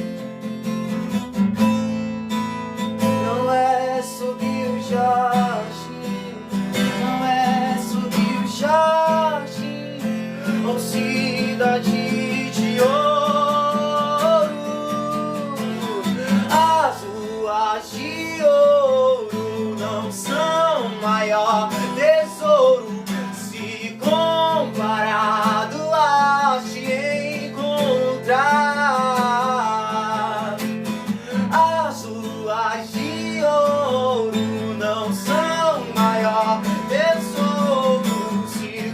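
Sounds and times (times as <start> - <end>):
acoustic guitar strumming chords: 0.0 - 38.9
person singing: 3.0 - 38.9.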